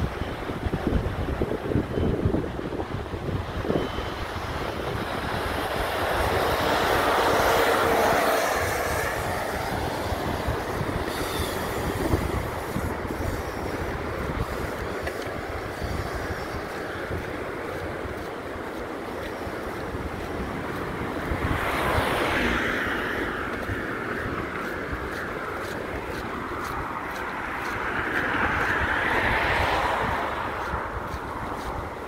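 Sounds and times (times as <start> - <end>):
wind buffeting microphone: 0.0 - 32.0
vehicle passing by: 4.3 - 32.0.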